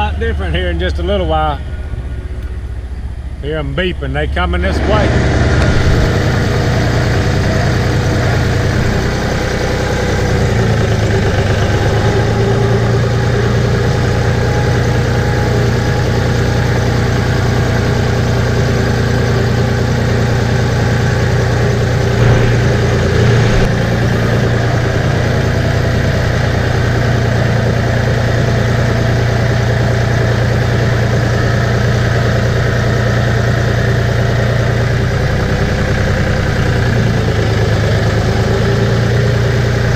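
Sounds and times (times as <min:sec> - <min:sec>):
engine idling: 0:00.0 - 0:39.9
loud engine knock: 0:05.1 - 0:39.9.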